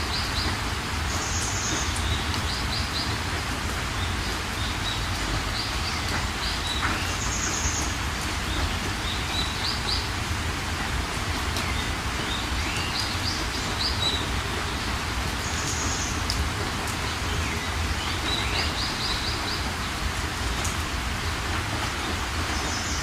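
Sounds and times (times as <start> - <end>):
songbirds chirping: 0.0 - 10.3, 11.5 - 23.0
steady rain hiss: 0.0 - 23.0.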